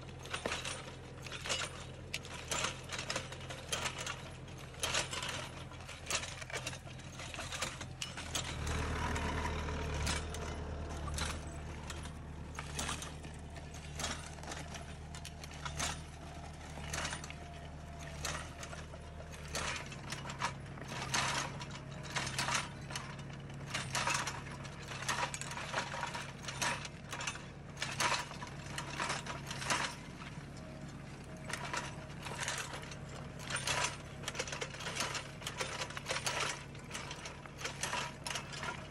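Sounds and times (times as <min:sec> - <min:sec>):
metal hoe discs clattering: 0:00.0 - 0:38.9
tractor engine running: 0:00.0 - 0:38.9.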